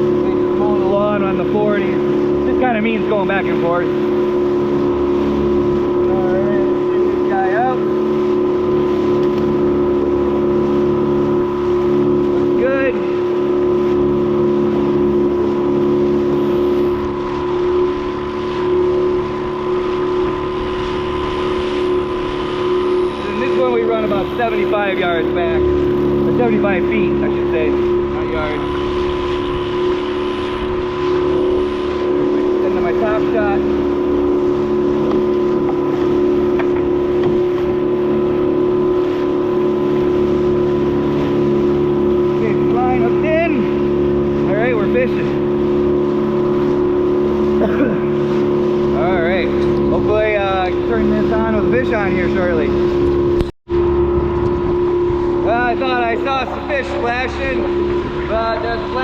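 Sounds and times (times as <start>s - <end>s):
boat motor humming: 0.0s - 59.0s
water rushing against hull: 0.0s - 59.0s.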